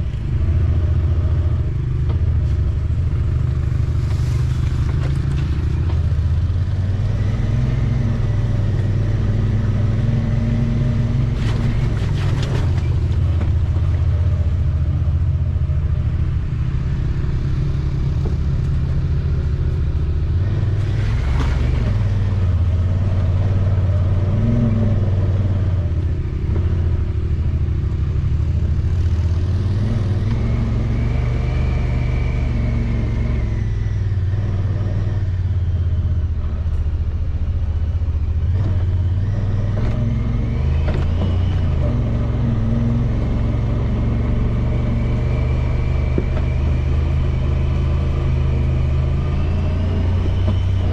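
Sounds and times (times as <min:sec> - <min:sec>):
vehicle engine droning: 0:00.0 - 0:50.9.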